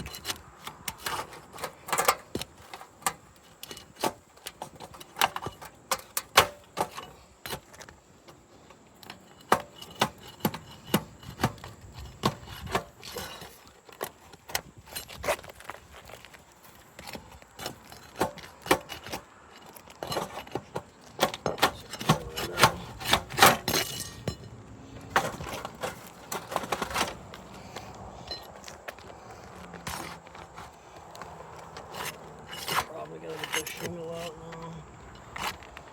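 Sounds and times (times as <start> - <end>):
hand tools clicking and knocking: 0.0 - 35.9
scraping shingles: 0.0 - 35.9.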